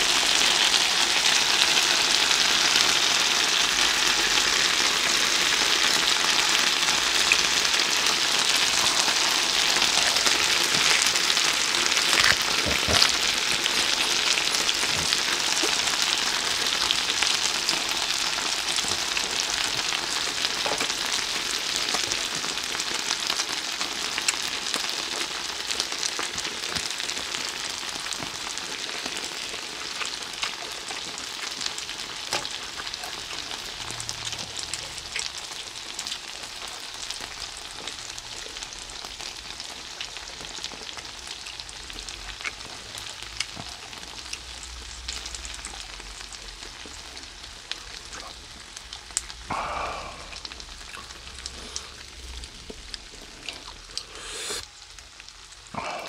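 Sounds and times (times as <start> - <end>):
pork sizzling on griddle: 0.0 - 56.0.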